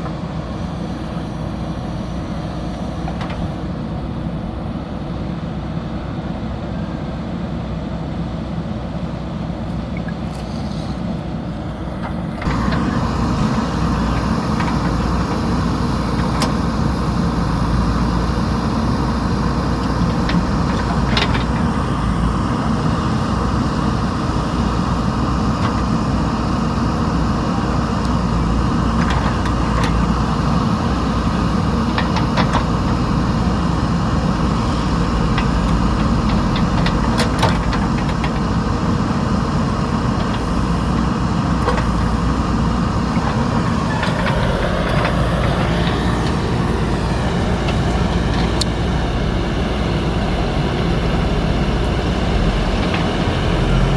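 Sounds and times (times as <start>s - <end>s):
backhoe diesel engine working: 0.0s - 53.9s.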